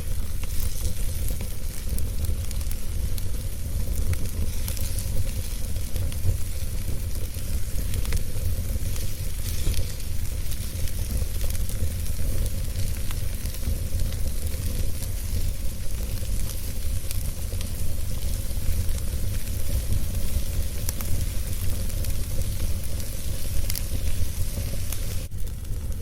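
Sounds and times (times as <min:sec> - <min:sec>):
burning wood crackling and popping: 0:00.0 - 0:26.0
fire rumble and hiss: 0:00.0 - 0:26.0.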